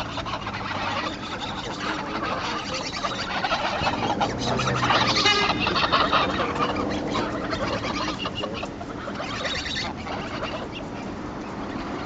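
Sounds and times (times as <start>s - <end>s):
geese clucking: 0.0s - 12.0s.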